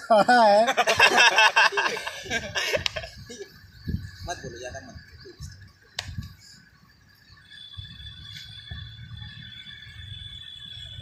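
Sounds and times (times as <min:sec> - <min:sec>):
thin steady high tone: 0:00.0 - 0:11.0.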